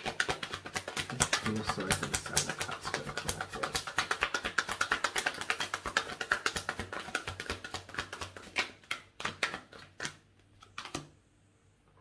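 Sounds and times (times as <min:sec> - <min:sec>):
card slaps: 0:00.0 - 0:11.1
cards being shuffled: 0:00.0 - 0:11.1.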